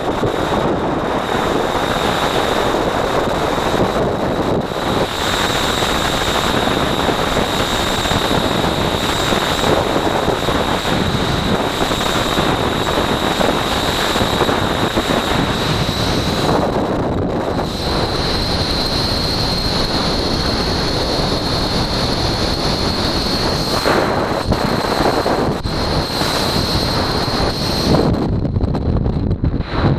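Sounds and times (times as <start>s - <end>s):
thin high whine: 0.0s - 28.6s
wind rushing over microphone: 0.0s - 29.9s.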